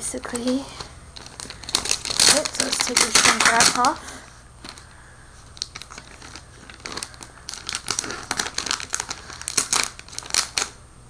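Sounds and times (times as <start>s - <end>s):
plastic wrap crinkling: 0.2s - 10.8s.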